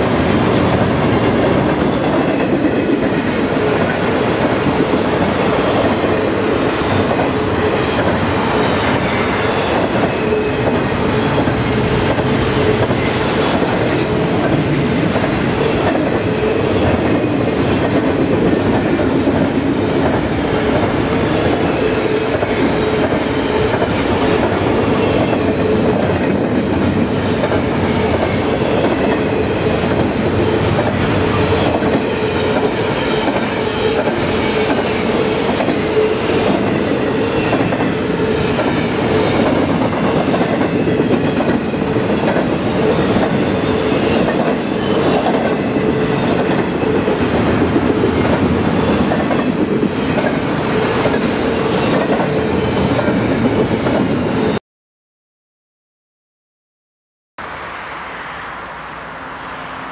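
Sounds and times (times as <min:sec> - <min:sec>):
clickety-clack over rail joints: 0:00.0 - 0:35.8, 0:37.4 - 0:54.2
train wheels rumbling on rail: 0:00.0 - 0:54.6.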